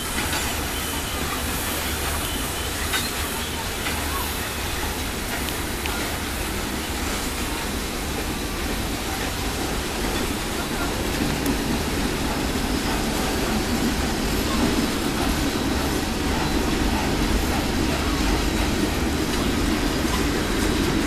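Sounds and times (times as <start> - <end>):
steam locomotive running: 0.0 - 21.0.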